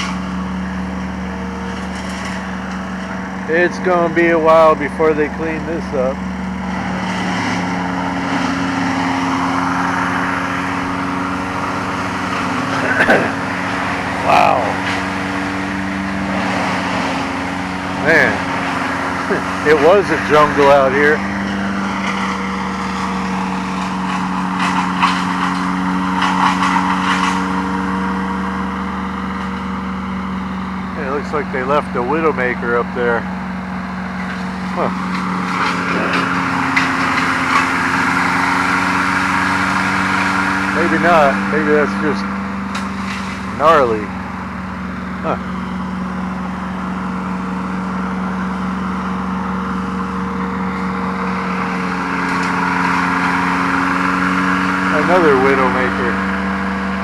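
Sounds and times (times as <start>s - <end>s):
crackling clatter: 0.0s - 3.5s, 6.2s - 30.9s, 33.3s - 57.0s
large engine running: 0.0s - 57.0s.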